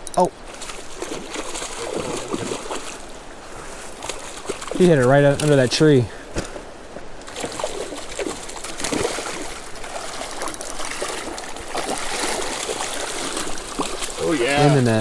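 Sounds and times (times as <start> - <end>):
creek water running: 0.0 - 15.0
small water splashes: 0.4 - 15.0.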